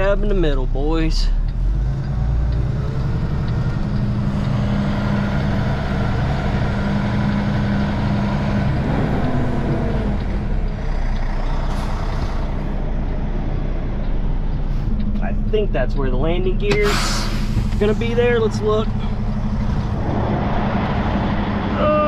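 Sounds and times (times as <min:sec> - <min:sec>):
diesel truck engine low hum: 0:00.0 - 0:22.0.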